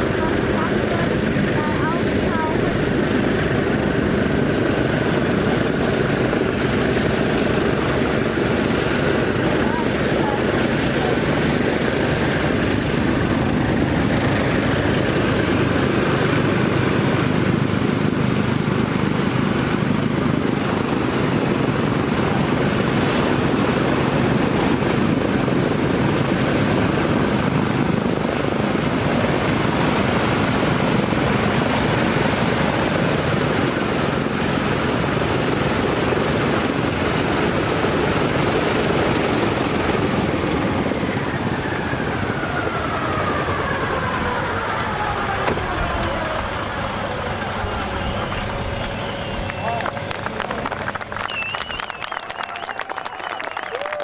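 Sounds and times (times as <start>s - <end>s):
propeller aircraft engines droning: 0.0s - 54.0s.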